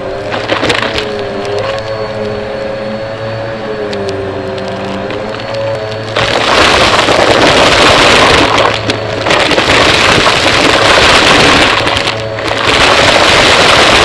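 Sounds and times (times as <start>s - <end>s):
vacuum cleaner motor hum: 0.0s - 14.0s.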